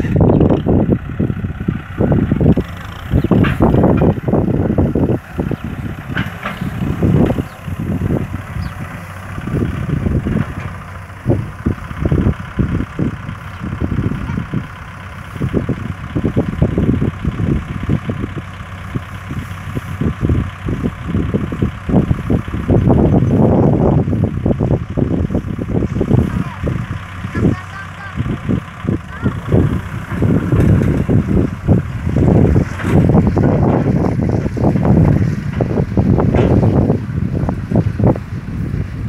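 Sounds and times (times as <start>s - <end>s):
diesel tractor engine idling: 0.0s - 39.0s.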